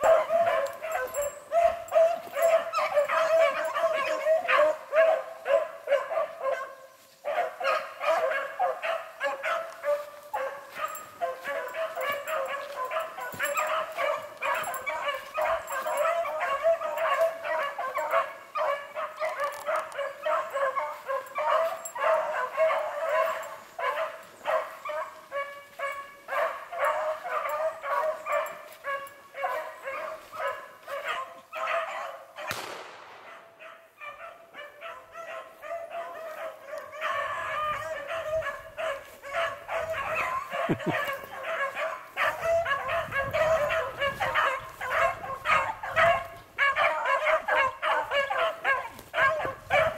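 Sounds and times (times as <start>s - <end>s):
hounds baying: 0.0s - 49.9s.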